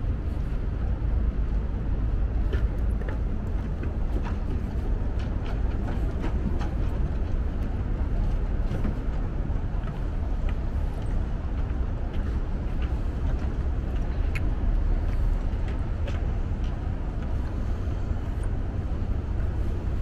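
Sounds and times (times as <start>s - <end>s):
road traffic rumble: 0.0s - 20.0s
footsteps on wooden boardwalk: 2.4s - 20.0s.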